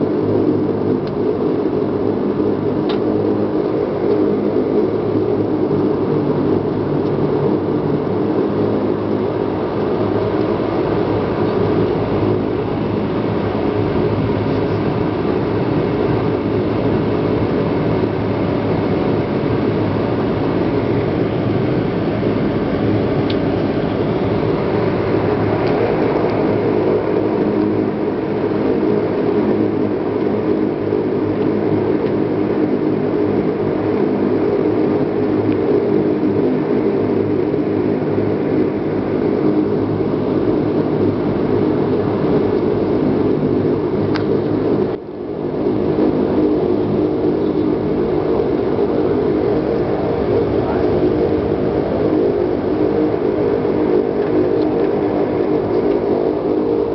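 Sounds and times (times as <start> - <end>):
turboprop engines droning: 0.0 - 56.9.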